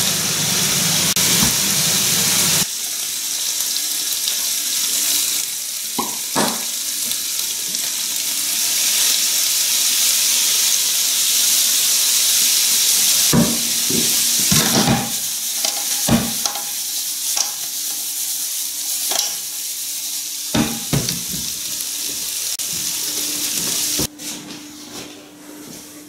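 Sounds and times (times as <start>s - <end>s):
squid sizzling in a frying pan: 0.1s - 24.1s.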